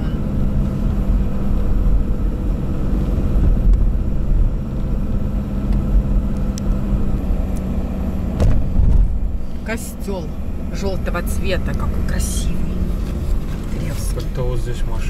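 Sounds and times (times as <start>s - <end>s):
car engine and tyres rumbling: 0.0s - 15.0s
constant hum: 0.0s - 15.0s.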